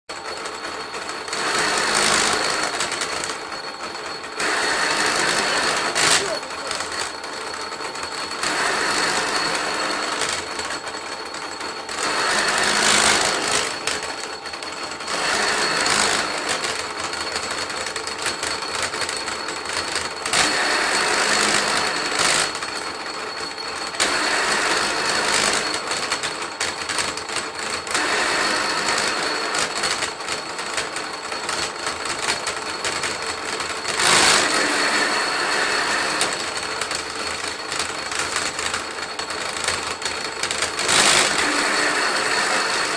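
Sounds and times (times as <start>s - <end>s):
splitting machine motor whining: 0.1s - 42.9s.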